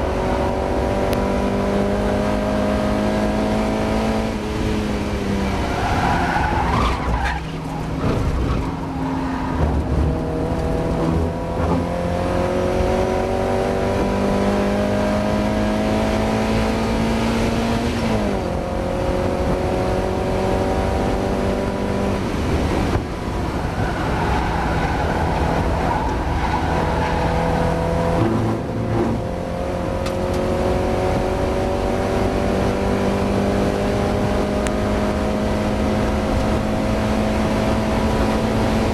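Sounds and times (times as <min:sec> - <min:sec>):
race car engine accelerating: 0:00.0 - 0:38.9.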